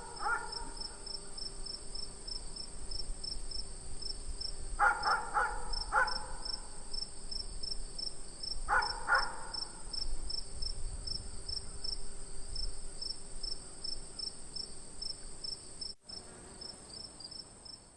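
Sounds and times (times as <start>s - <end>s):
pulsing cricket chirp: 0.0s - 16.0s
insects trilling: 0.0s - 17.8s.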